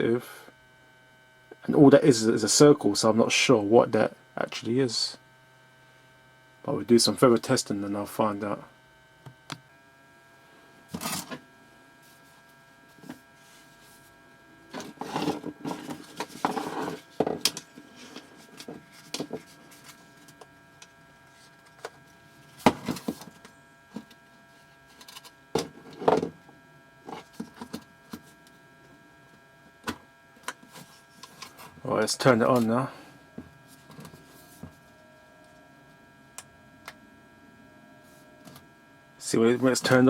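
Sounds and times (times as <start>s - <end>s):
faint electrical hum: 0.0s - 40.0s.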